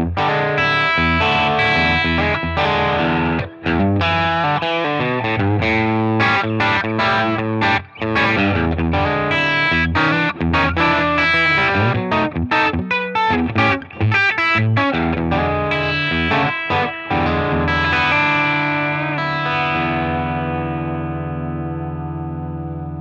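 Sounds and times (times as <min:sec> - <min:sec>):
electric guitar playing: 0:00.0 - 0:23.0.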